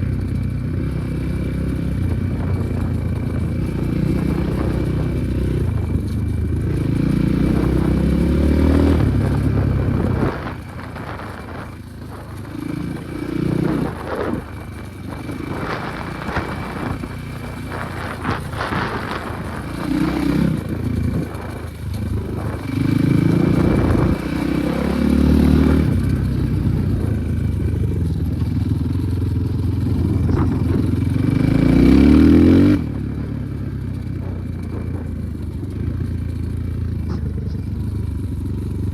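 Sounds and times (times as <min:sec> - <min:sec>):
motorcycle engine revving: 0:00.0 - 0:38.9
rattling over rough ground: 0:00.0 - 0:38.9.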